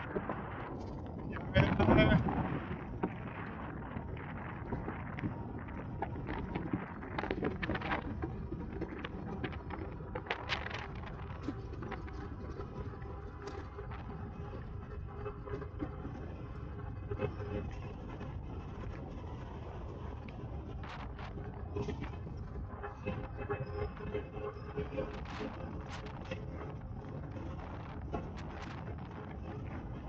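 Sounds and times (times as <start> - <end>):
bicycle tyre and wind rumble: 0.0 - 30.0.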